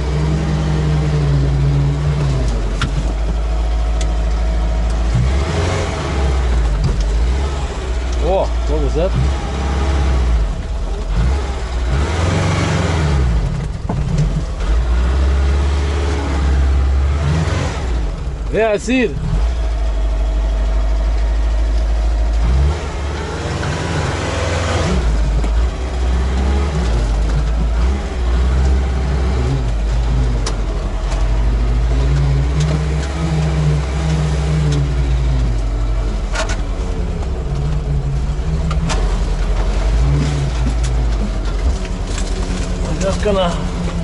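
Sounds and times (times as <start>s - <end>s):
tracked vehicle engine droning: 0.0s - 44.0s.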